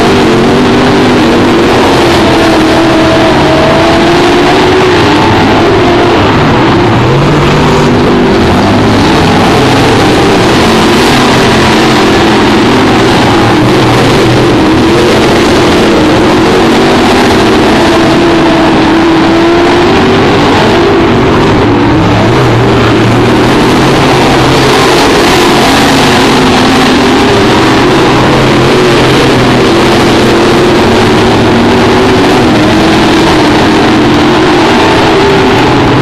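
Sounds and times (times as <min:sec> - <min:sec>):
race car engines racing: 0:00.0 - 0:36.0.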